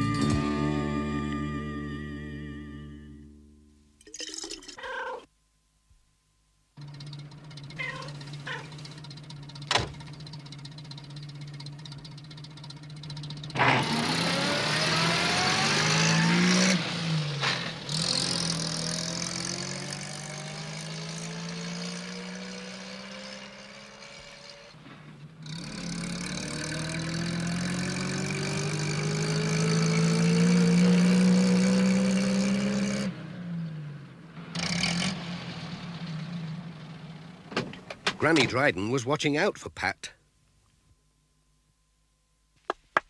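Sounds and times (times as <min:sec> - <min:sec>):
van engine running: 0:00.0 - 0:04.0, 0:06.7 - 0:39.1.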